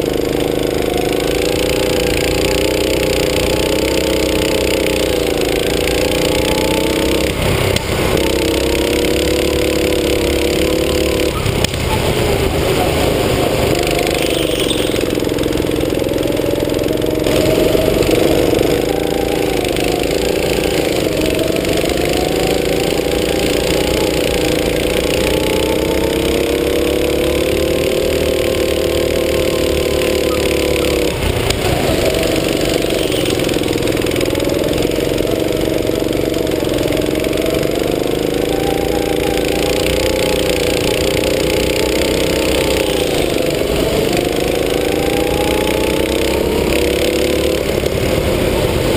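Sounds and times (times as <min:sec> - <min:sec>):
go-kart engine running: 0:00.0 - 0:48.9.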